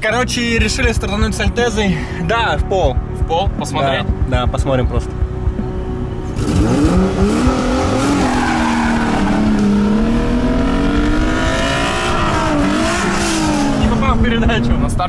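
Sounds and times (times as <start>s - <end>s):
car engines revving hard: 2.8s - 15.0s.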